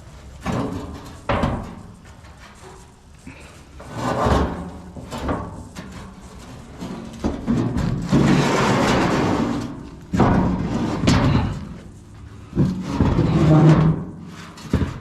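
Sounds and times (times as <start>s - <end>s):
scrap metal scraping: 0.0s - 15.0s.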